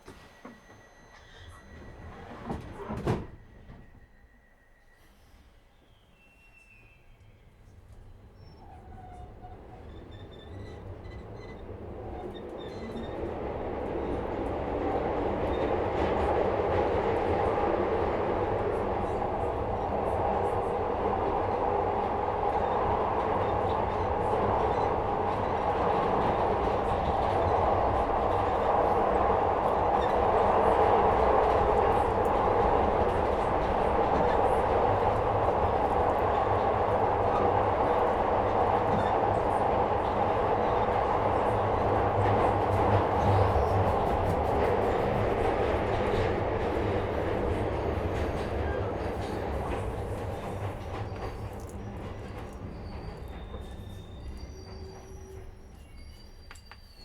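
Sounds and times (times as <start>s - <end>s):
subway car wheels roaring: 0.0s - 6.2s, 7.2s - 57.0s.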